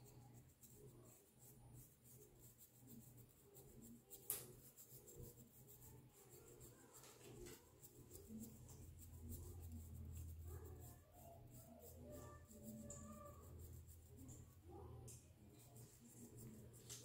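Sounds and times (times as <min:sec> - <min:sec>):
comb scratching through hair: 0:00.0 - 0:14.6.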